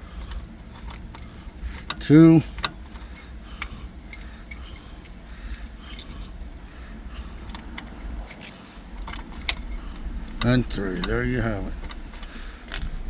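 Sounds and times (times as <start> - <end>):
metal keys clinking: 0.0 - 10.7, 11.8 - 13.0
low rumble: 0.0 - 13.0.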